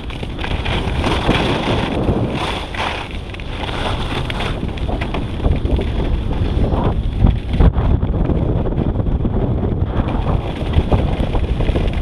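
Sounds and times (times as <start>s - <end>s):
skis scraping on snow: 0.0s - 8.6s, 9.8s - 12.0s
wind buffeting microphone: 0.0s - 12.0s.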